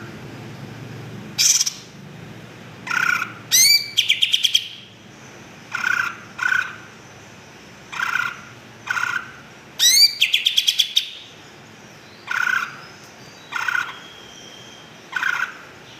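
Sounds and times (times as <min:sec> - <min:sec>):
bird singing: 0:01.4 - 0:02.0, 0:02.8 - 0:15.9.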